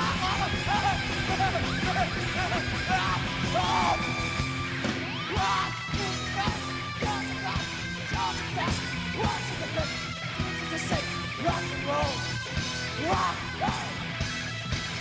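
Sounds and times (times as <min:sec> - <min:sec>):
singer yelling: 0:00.0 - 0:14.2
rock band playing live: 0:00.0 - 0:15.0.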